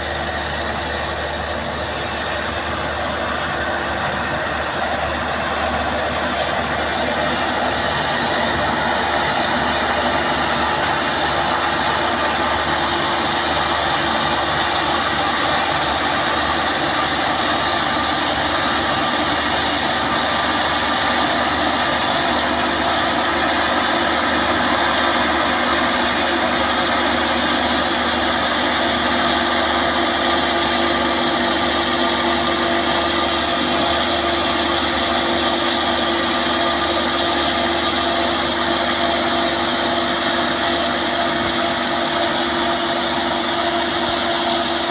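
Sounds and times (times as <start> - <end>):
heavy machine engine droning: 0.0 - 44.9.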